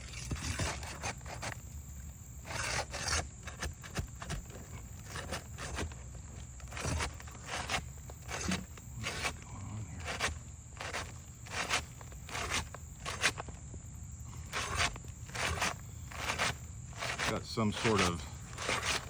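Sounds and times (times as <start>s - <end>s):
scraping on roof shingles: 0.0s - 1.6s, 2.4s - 13.5s, 14.4s - 19.0s.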